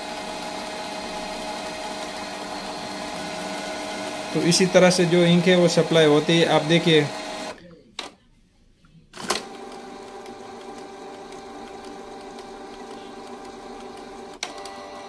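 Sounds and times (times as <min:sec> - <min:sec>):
printer mechanical whir: 0:00.0 - 0:07.6, 0:09.2 - 0:15.0.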